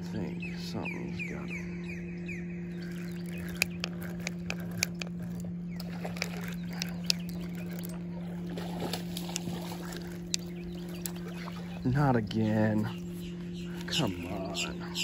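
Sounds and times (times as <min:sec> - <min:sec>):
steady low hum: 0:00.0 - 0:15.0
water swirling and sloshing: 0:02.7 - 0:15.0.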